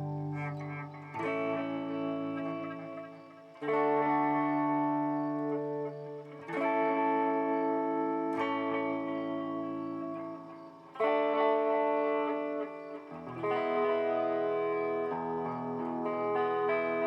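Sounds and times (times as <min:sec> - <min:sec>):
electric guitar chords with delay: 0:00.0 - 0:17.0.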